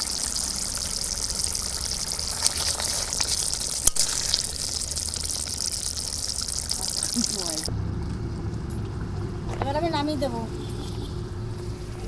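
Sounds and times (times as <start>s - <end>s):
curry simmering and bubbling: 0.0s - 9.7s.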